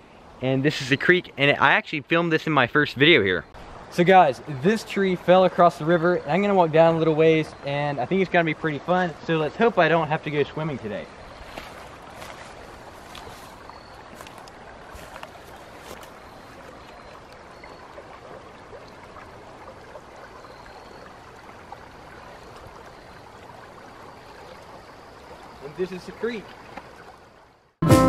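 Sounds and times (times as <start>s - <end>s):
creek water running: 0.0s - 27.8s.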